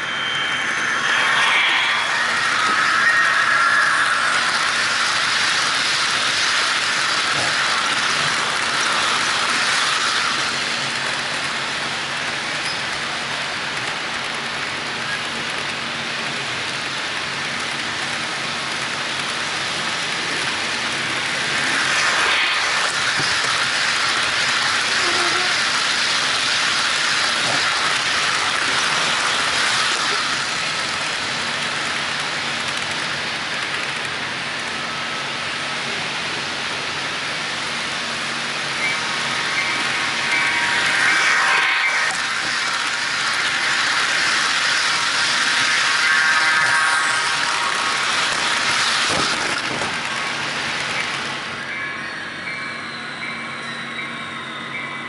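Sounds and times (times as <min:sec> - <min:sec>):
model train wheels hissing on rails: 0:00.0 - 0:55.0.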